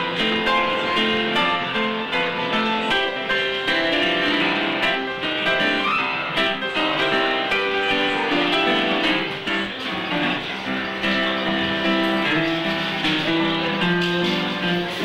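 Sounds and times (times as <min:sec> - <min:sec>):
upright piano playing: 0:00.0 - 0:15.0.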